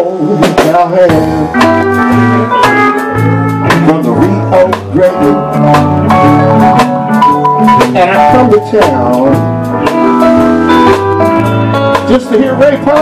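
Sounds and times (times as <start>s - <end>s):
electric bass: 0.0s - 13.0s
steady drum beat: 0.0s - 13.0s
steel guitar sliding notes: 1.1s - 13.0s.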